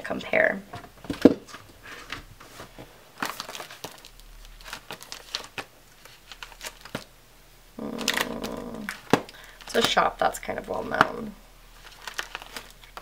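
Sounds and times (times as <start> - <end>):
plastic and paper crinkling: 0.8 - 7.1, 7.8 - 13.0.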